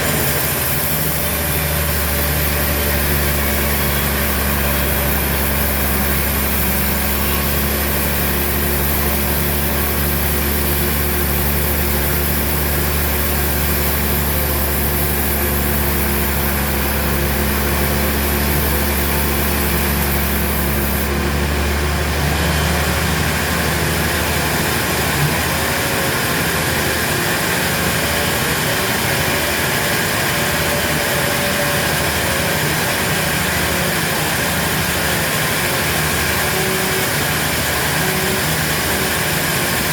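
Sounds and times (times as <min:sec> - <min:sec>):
sawmill machinery engine droning: 0:00.0 - 0:39.9.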